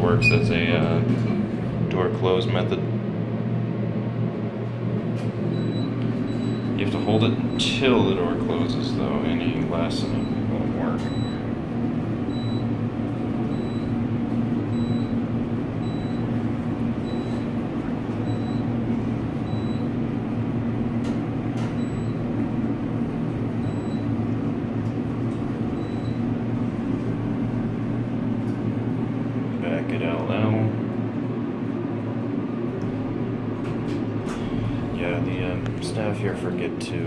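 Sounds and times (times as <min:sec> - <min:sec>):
elevator hum and rumble: 0:00.0 - 0:37.0.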